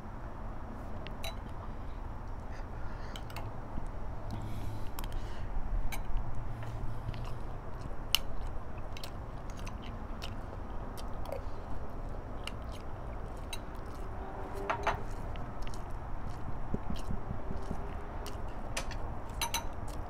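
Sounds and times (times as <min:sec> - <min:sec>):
person chewing food: 0:00.9 - 0:20.0.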